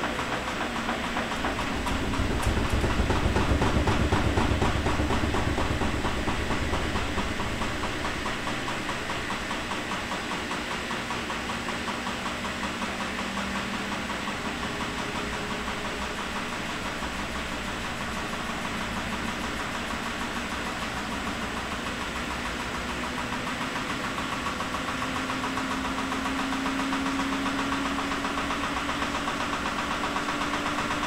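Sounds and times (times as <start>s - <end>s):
washing machine drum rumbling: 0.0s - 31.0s.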